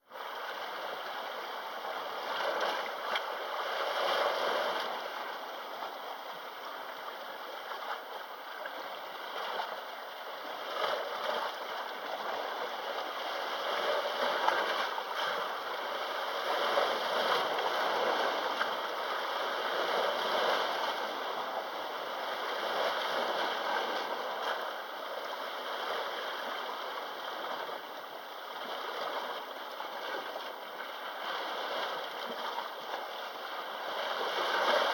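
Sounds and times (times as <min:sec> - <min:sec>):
small waves lapping on shore: 0:00.1 - 0:34.9.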